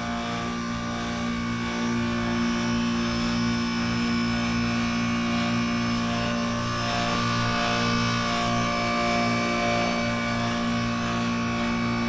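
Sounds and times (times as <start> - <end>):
heat pump compressor hum: 0.0 - 12.0.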